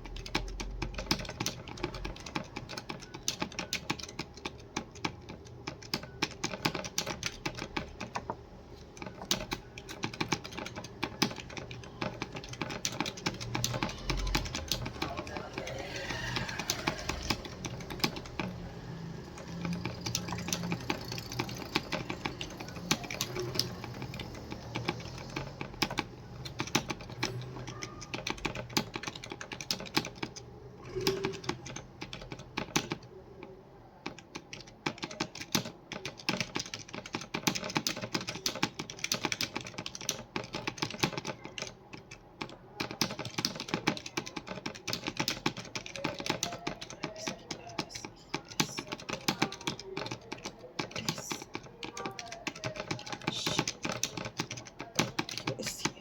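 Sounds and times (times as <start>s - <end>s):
fast keyboard typing: 0.0s - 56.0s.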